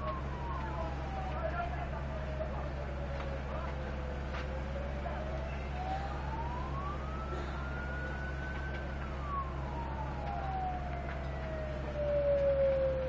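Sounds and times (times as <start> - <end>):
steady low hum: 0.0 - 12.2
emergency siren wailing: 0.0 - 13.0.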